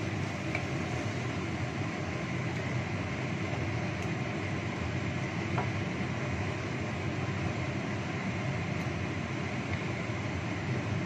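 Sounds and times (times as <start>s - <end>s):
gas stove burner rumble: 0.0s - 11.0s
sauce simmering in wok: 0.0s - 11.0s.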